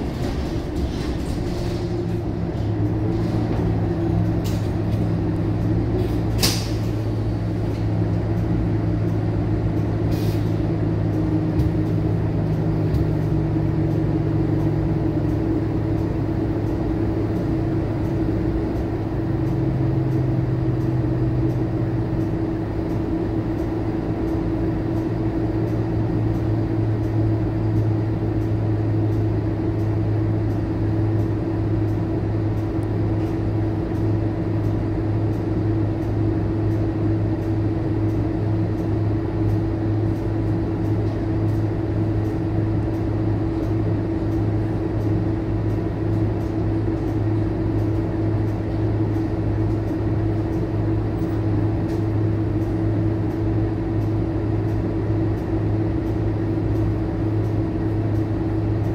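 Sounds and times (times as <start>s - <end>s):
bus diesel engine idling: 0.0s - 58.9s.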